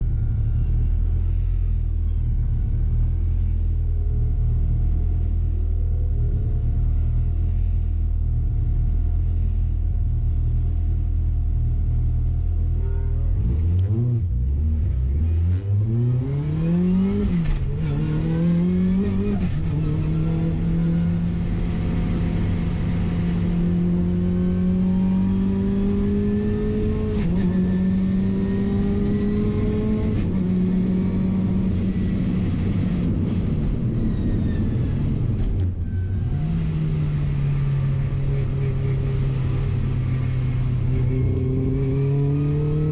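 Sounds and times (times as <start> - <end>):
car engine idling and accelerating: 0.0 - 42.9.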